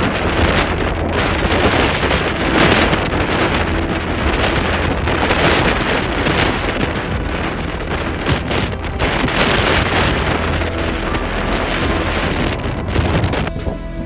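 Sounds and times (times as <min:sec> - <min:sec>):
heavy surf rumbling: 0:00.0 - 0:14.0
strong wind buffeting microphone: 0:00.0 - 0:14.0.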